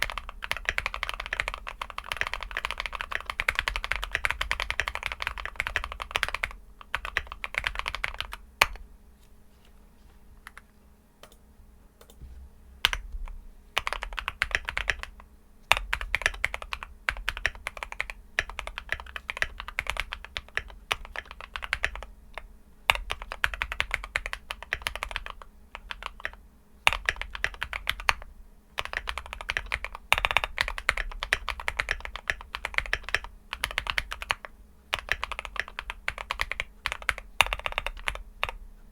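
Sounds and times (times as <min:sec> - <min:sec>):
typing on mechanical keyboard: 0:00.0 - 0:08.8, 0:13.8 - 0:38.6.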